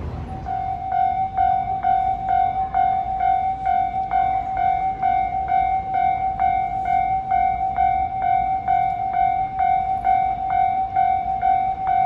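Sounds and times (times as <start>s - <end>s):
level crossing warning bell: 0.0s - 12.0s.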